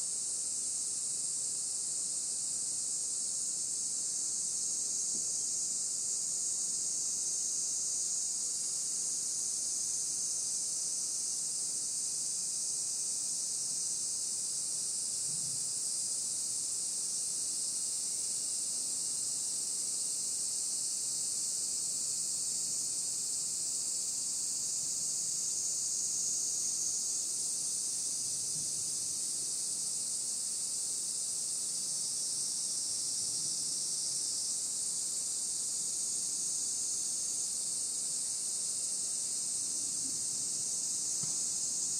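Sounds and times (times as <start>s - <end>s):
insects chorus hissing: 0.0s - 41.9s.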